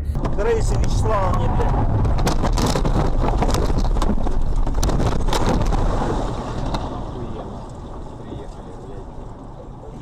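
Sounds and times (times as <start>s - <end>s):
low rumble: 0.0s - 10.0s
wind buffeting microphone: 0.0s - 10.0s
crackles: 0.1s - 10.0s.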